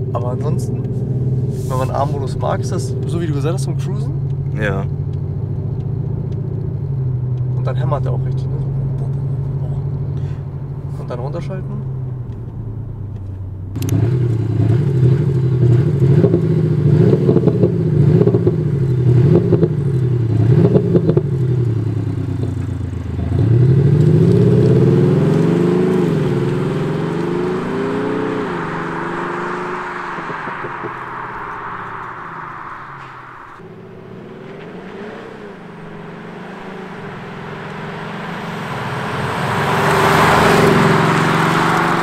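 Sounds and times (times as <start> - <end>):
car engine revving with pops: 0.0 - 42.0.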